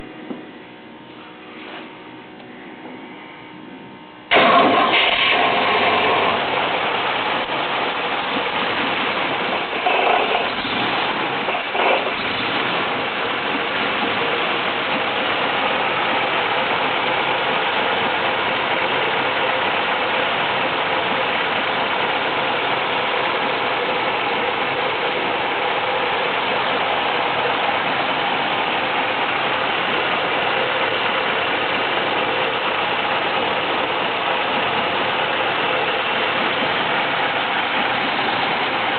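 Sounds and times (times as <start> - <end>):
car engine starting and running: 0.0 - 38.9.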